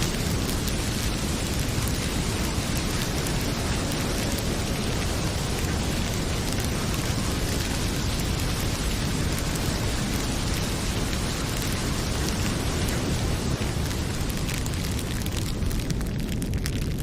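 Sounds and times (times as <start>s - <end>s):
faint wood fire crackle: 0.0s - 17.0s
heavy rain pouring: 0.0s - 17.0s.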